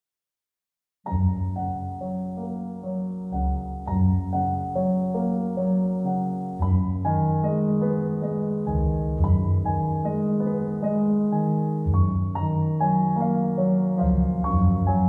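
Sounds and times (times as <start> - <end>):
piano background music: 1.1 - 15.0.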